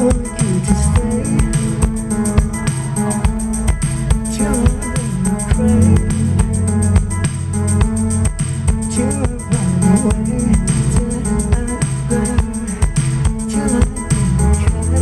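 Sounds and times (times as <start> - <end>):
live band guitar over beat: 0.0 - 15.0.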